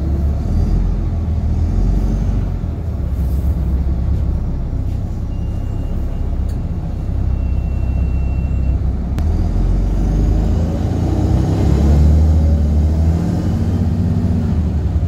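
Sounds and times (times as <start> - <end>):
rough bus diesel engine: 0.0 - 15.0.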